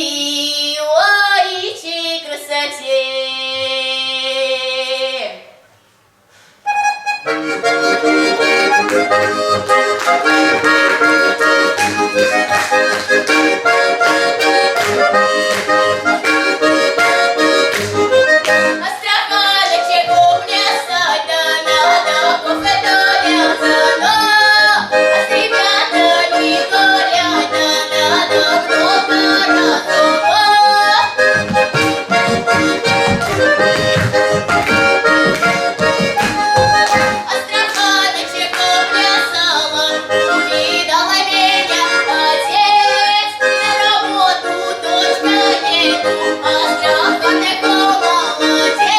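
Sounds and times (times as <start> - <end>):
accordion playing: 6.7 - 48.9.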